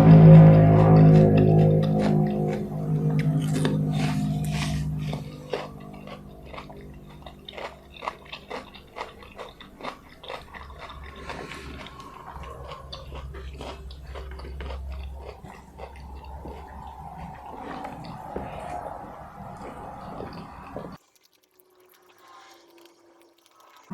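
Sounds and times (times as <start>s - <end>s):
low steady hum: 0.0s - 21.0s
chewing: 0.0s - 23.9s
wet mouth clicks and smacks: 3.4s - 23.9s.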